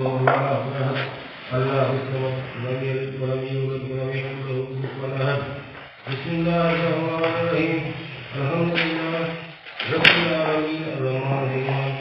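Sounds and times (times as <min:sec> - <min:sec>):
man chanting a prayer: 0:00.0 - 0:12.0.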